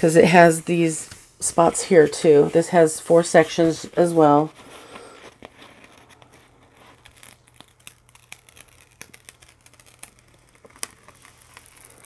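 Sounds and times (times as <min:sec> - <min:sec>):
plastic film crinkling and crackling: 0:01.5 - 0:12.0.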